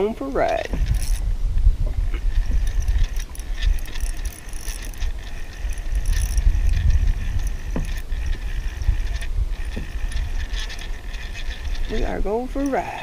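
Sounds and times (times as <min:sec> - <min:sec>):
light mechanical clicks and ratcheting: 0:00.0 - 0:01.3, 0:02.1 - 0:13.0
wind buffeting microphone: 0:00.0 - 0:13.0.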